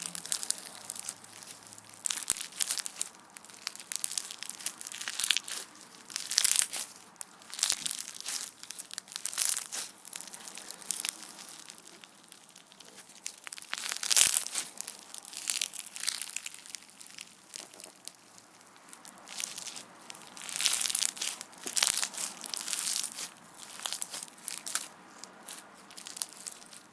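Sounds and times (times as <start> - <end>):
slime crackling and popping: 0.0 - 26.9.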